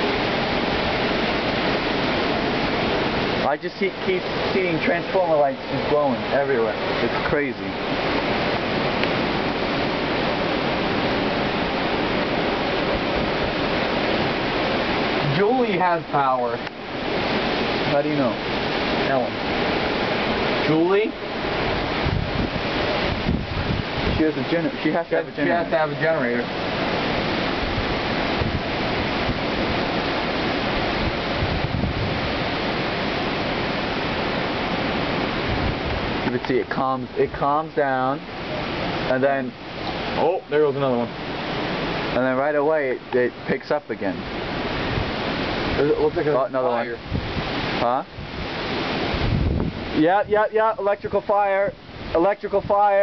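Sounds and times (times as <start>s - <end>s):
hurricane wind roaring through trees: 0.0s - 53.0s.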